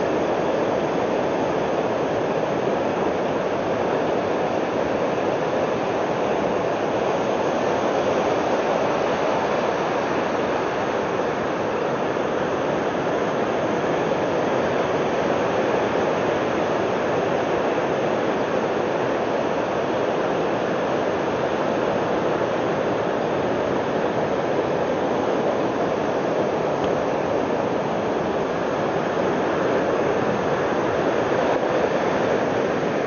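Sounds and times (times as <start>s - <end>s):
surf breaking on beach: 0.0s - 33.0s.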